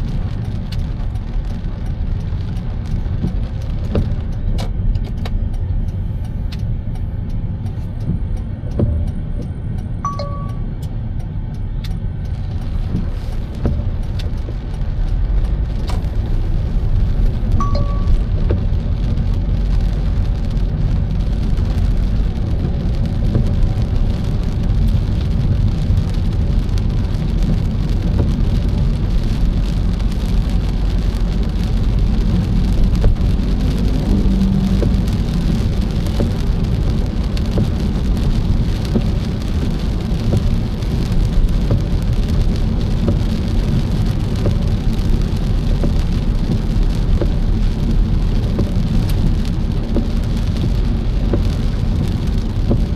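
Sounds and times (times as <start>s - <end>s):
car rumbling in motion: 0.0s - 52.9s
rain falling on a car: 0.0s - 52.9s.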